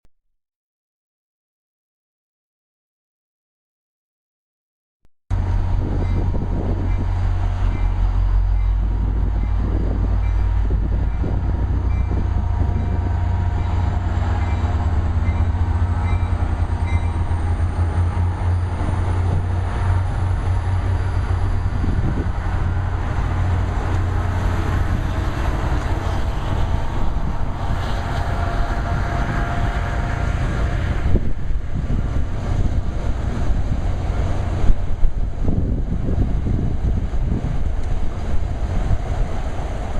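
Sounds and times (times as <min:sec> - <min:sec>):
diesel locomotive engine drone: 0:05.3 - 0:39.9.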